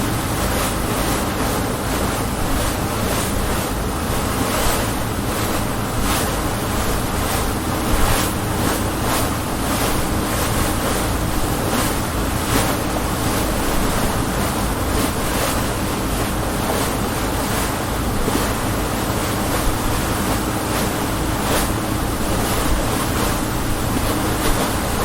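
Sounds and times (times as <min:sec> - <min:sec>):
boat engine drone: 0:00.0 - 0:25.0
rushing splashing water: 0:00.0 - 0:25.0.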